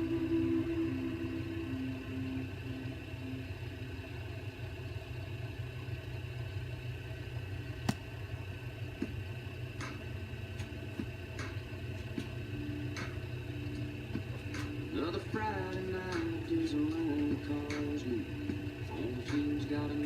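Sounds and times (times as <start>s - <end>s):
lathe motor running: 0.0s - 20.0s.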